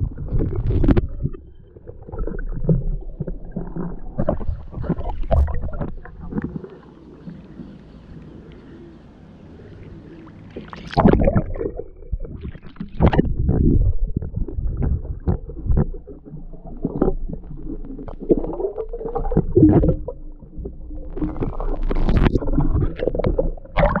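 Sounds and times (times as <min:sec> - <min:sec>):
muffled underwater gurgling: 0:00.0 - 0:24.0
water sloshing and splashing: 0:00.0 - 0:24.0.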